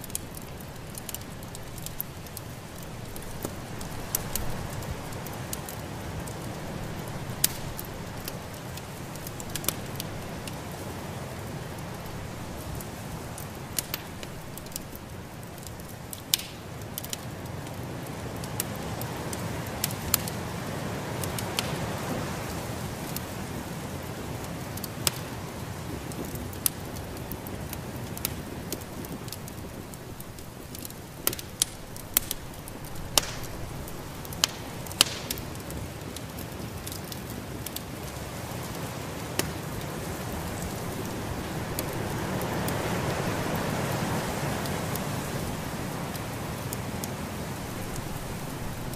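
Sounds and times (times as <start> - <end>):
steady rushing hiss: 0.0 - 48.9
wood fire crackling and popping: 0.0 - 48.9.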